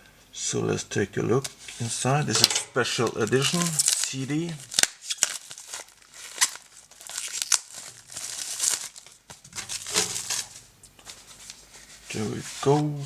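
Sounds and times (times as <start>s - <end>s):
packaging crinkling and rustling: 1.4s - 13.0s.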